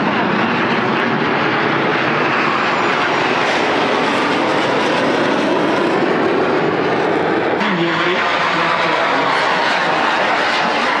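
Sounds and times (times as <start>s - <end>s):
jets flying past: 0.0s - 11.0s.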